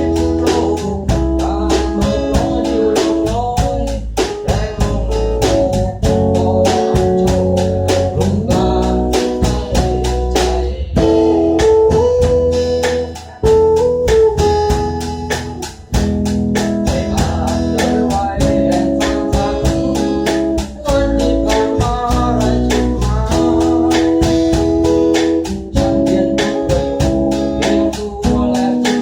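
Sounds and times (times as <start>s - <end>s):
song with plucked guitar and beat: 0.0s - 29.0s.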